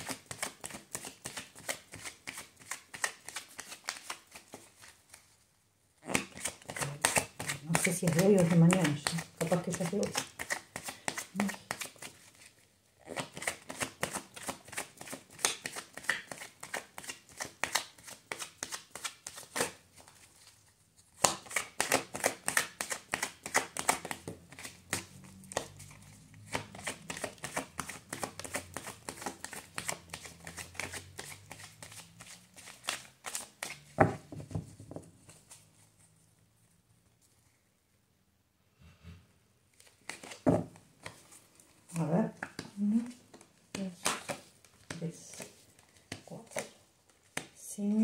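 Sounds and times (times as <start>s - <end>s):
cards being shuffled: 0.0s - 5.3s, 6.0s - 36.0s, 39.7s - 47.6s.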